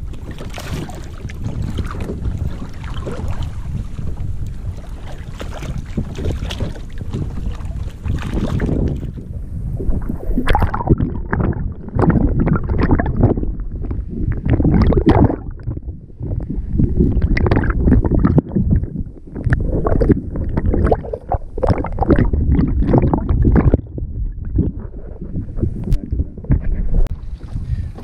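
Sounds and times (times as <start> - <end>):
muffled water sloshing: 0.0 - 28.0.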